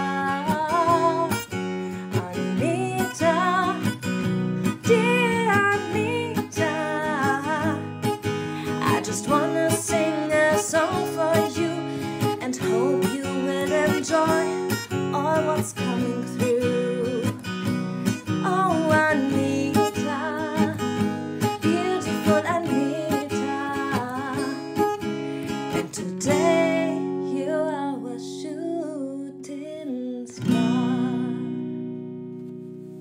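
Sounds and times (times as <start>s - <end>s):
strummed acoustic guitar: 0.0s - 33.0s.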